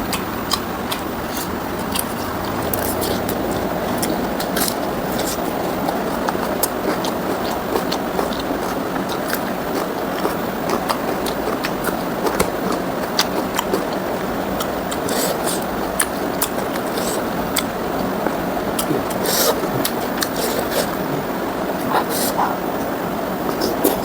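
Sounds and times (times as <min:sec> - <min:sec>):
chewing with wet mouth smacks: 0:00.0 - 0:24.0
steady background noise: 0:00.0 - 0:24.0.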